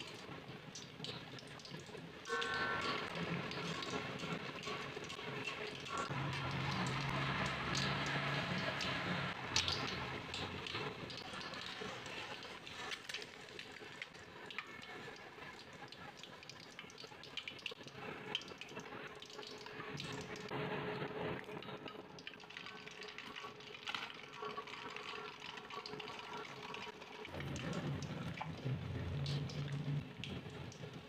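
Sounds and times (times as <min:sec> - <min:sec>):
oil sizzling and popping: 0:00.0 - 0:31.0.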